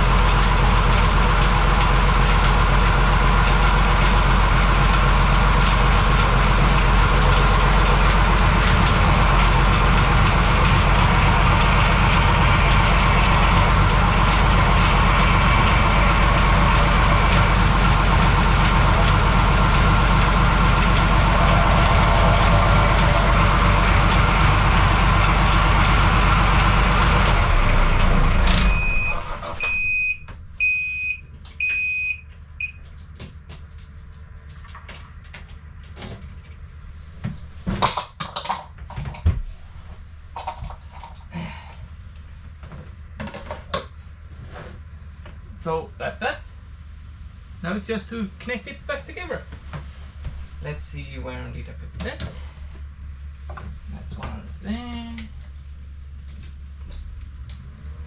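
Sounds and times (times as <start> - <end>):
diesel engine running: 0.0 - 38.1, 39.5 - 58.0.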